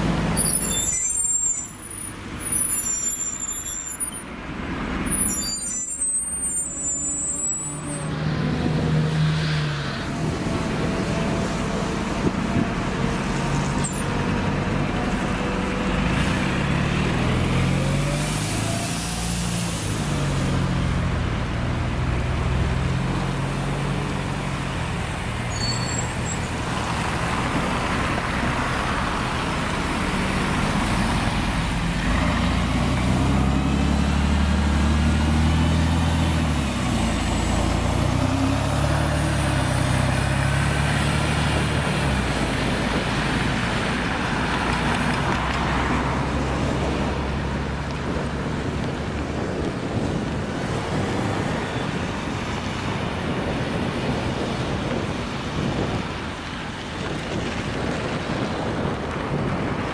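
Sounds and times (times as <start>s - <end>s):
bus engines running: 0.0s - 59.9s
road noise: 0.0s - 59.9s.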